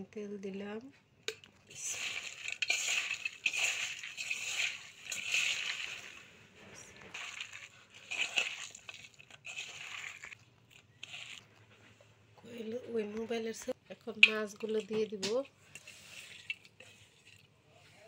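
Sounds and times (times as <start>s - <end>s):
wet squelching of kneaded onions: 1.3s - 12.4s, 13.9s - 18.0s.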